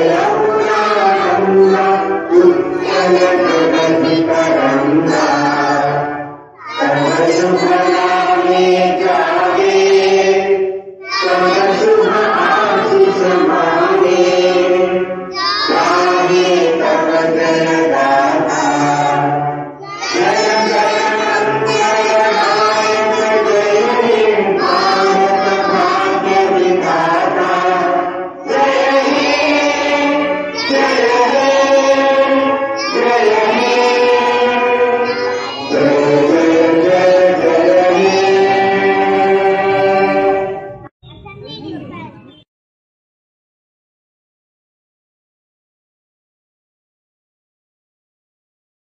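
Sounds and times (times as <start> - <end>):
children singing together: 0.0 - 40.9.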